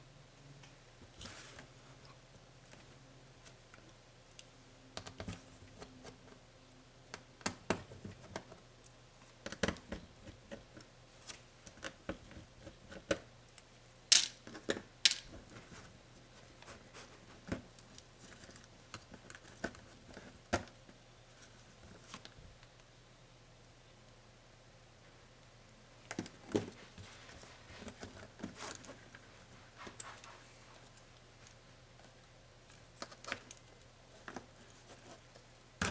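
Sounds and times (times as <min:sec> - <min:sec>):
faint low hum: 0:00.0 - 0:35.9.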